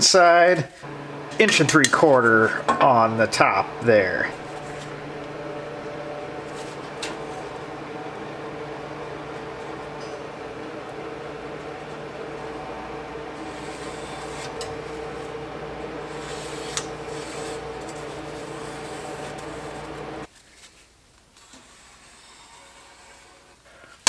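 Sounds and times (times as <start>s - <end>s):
steady mechanical hum: 0.0s - 20.3s.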